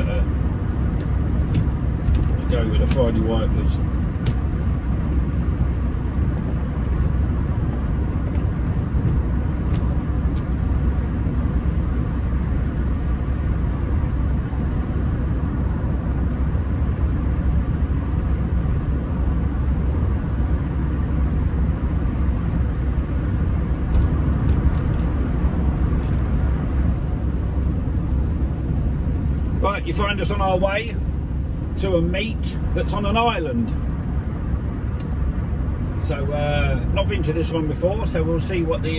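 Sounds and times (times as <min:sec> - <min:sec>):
car engine rumble from cabin: 0:00.0 - 0:38.9.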